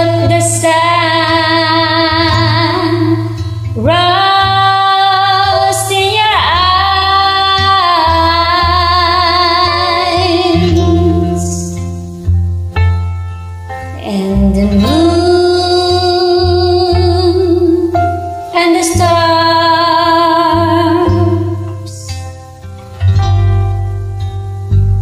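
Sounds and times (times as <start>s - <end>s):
woman singing a slow ballad: 0.0s - 12.1s, 13.9s - 22.4s
soft backing track: 0.0s - 25.0s.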